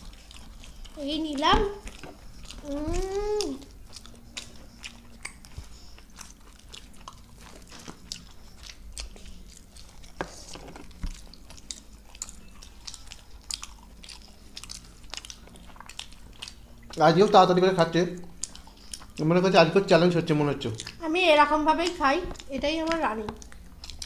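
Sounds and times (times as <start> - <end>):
people chewing food: 0.0 - 24.0.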